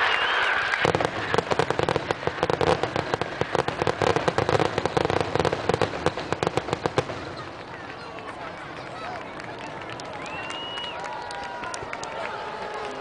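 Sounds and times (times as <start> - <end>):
fireworks bangs and crackles: 0.0 - 10.8.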